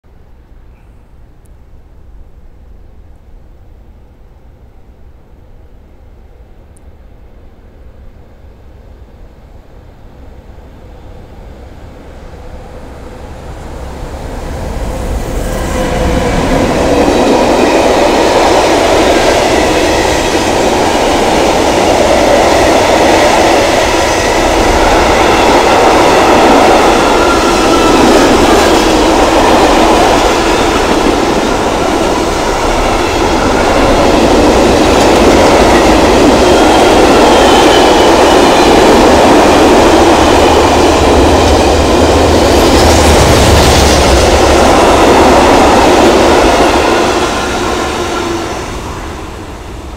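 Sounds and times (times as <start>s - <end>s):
freight train rumbling past: 3.7s - 49.9s.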